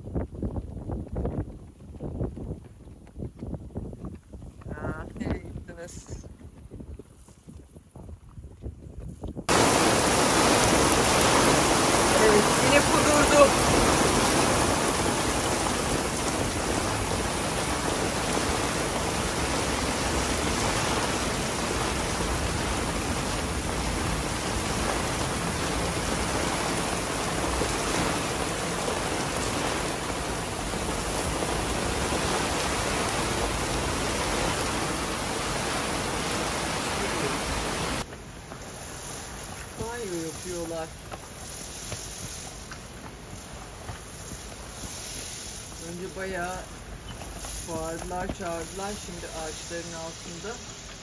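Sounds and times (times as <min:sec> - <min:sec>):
steady rain falling: 0:09.5 - 0:51.0.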